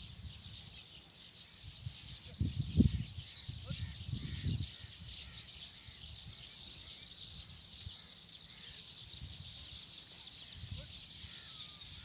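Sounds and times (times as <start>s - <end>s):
high-pitched chorus of chirping: 1.7s - 12.0s.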